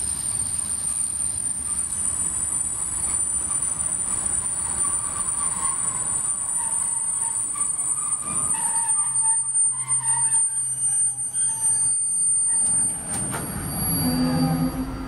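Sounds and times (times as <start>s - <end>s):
train wagons rolling past: 0.0s - 15.0s
wheels squealing: 0.0s - 15.0s.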